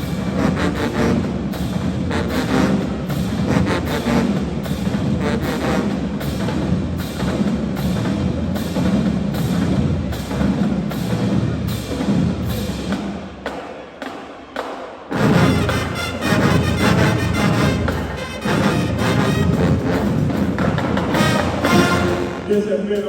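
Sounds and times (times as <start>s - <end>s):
drumline steady beat: 0.0s - 23.0s
marching band brass: 0.0s - 23.0s.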